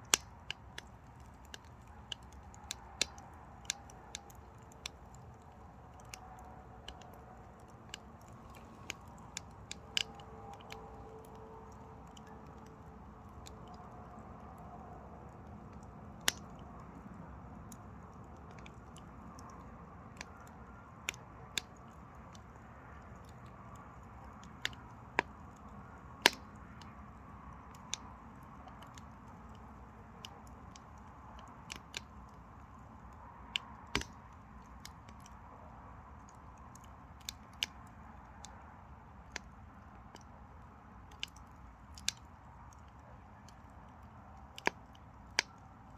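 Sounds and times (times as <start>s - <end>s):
firewood crackling and popping: 0.0s - 45.9s.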